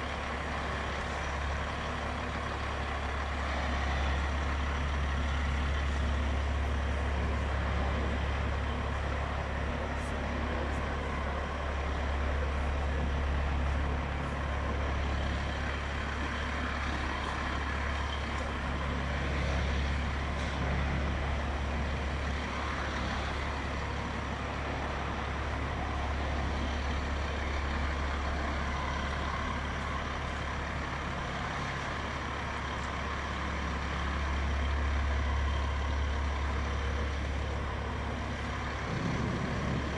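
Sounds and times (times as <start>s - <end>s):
truck diesel engine at low revs: 0.0s - 39.9s.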